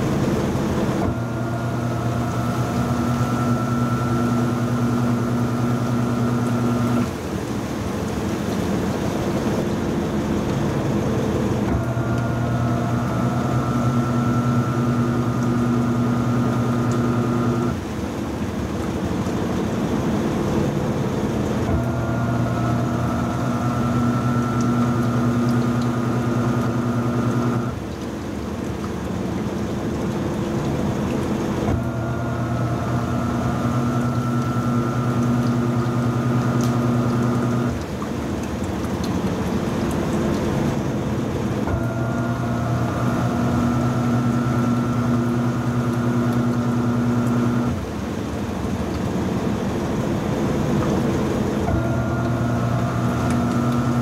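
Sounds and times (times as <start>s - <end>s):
washing machine hum with whine: 0.0s - 54.0s
washing machine rumble: 0.0s - 54.0s.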